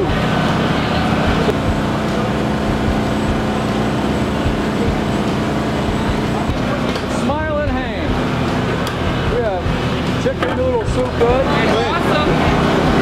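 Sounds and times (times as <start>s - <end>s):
loud rumble: 0.0s - 13.0s
low hum: 0.0s - 13.0s.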